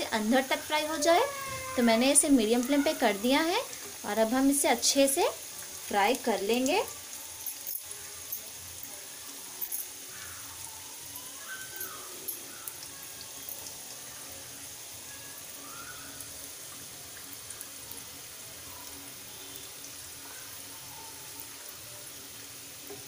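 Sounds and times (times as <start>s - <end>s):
deep-frying oil sizzling: 0.0s - 23.0s.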